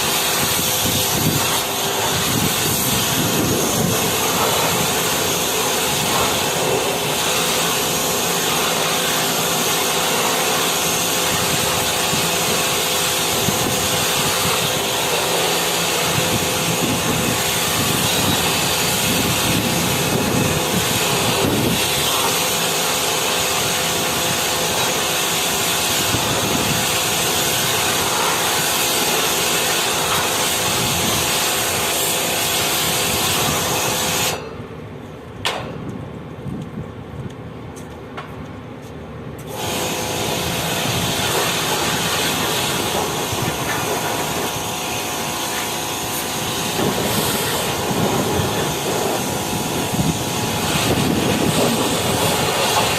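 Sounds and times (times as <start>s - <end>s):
machine motor hissing and humming: 0.0s - 34.4s, 39.4s - 52.9s.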